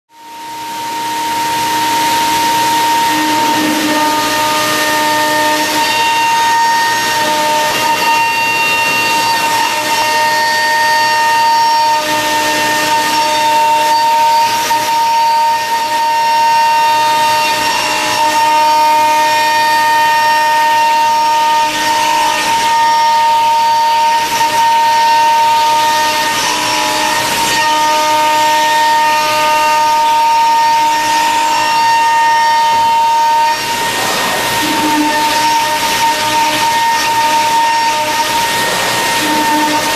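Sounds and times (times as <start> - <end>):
router spindle whining: 0.1 - 39.9.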